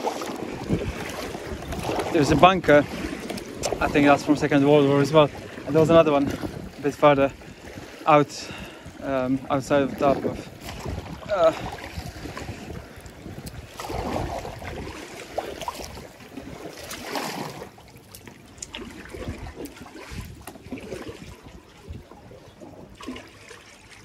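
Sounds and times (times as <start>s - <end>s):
wind buffeting microphone: 0.0s - 17.8s, 18.5s - 23.1s
water splashing around kayak: 0.0s - 24.0s.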